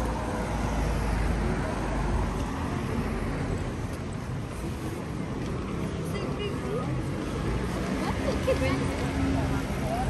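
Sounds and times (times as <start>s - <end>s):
faint voices of passers-by: 0.0s - 10.0s
road noise roar: 0.0s - 10.0s.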